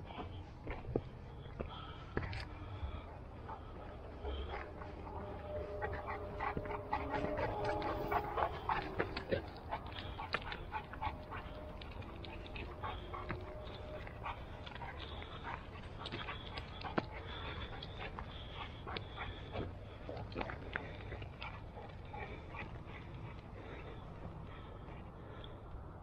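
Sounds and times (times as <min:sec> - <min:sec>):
footsteps on rocky dirt trail: 0:00.0 - 0:25.4.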